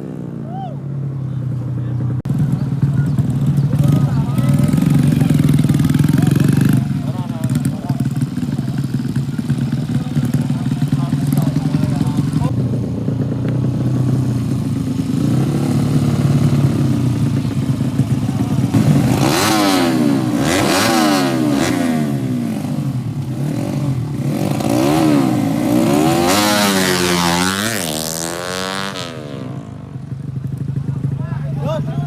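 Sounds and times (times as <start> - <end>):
motorcycles at full throttle: 0.0 - 32.0.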